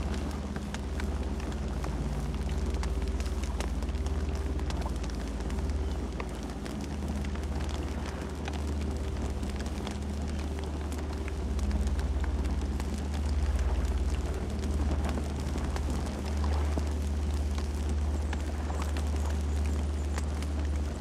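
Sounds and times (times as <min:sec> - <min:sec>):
campfire flames rumbling: 0:00.0 - 0:21.0
fire crackling and popping: 0:00.0 - 0:21.0.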